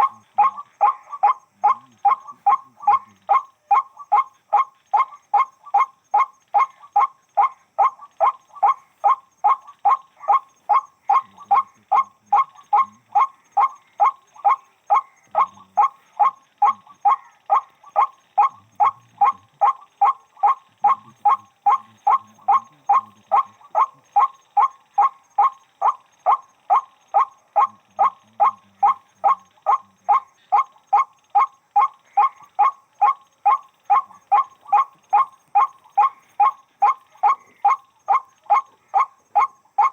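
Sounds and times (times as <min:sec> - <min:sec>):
waterhen harsh calls: 0:00.0 - 0:39.9.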